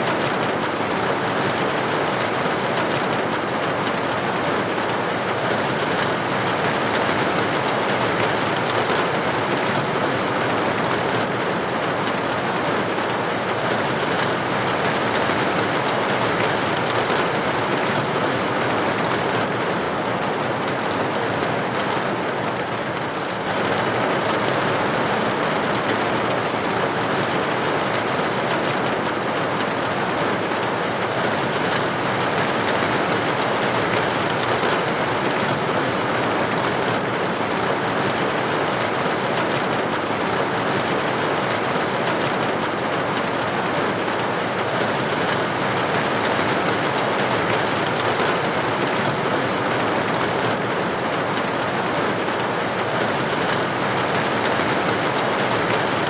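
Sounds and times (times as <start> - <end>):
rain pattering on window glass: 0.0 - 56.0.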